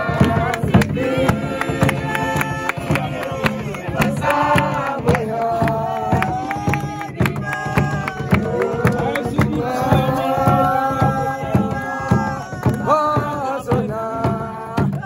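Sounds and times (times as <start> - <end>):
group of people singing: 0.0 - 15.0
rhythmic hand-clapping: 0.0 - 15.0.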